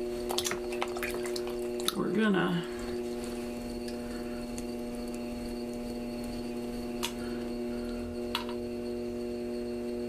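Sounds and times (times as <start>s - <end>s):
pottery wheel motor humming: 0.0s - 10.0s.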